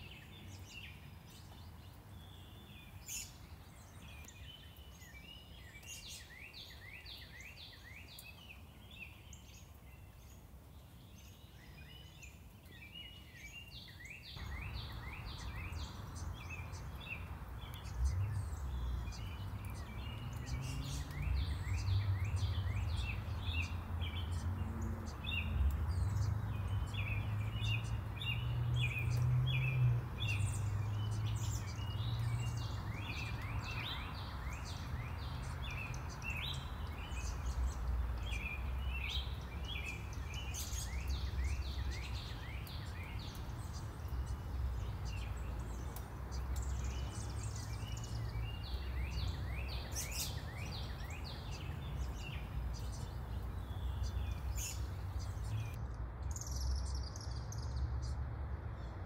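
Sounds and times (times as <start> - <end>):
low rumble of traffic: 0.0 - 59.0
songbirds chirping: 0.0 - 59.0.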